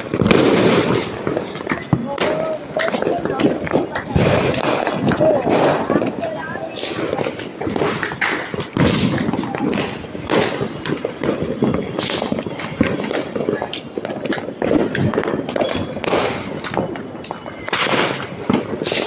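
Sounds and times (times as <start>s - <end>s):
firecrackers banging: 0.0s - 19.0s.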